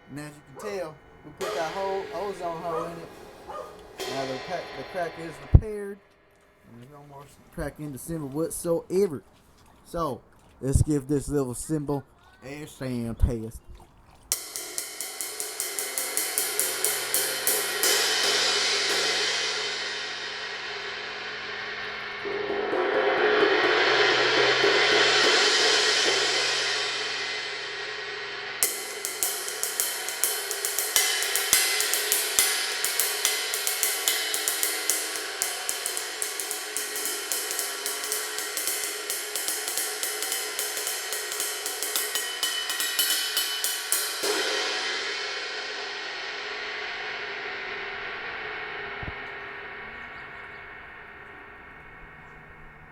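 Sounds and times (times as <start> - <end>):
ride cymbal played with a stick: 0.0 - 6.5, 14.3 - 52.9.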